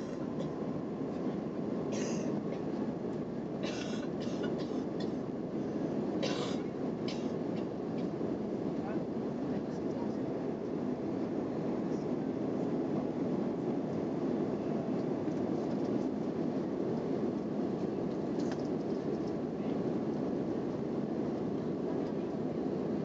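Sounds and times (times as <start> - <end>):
jet airliner cabin noise: 0.0 - 23.0.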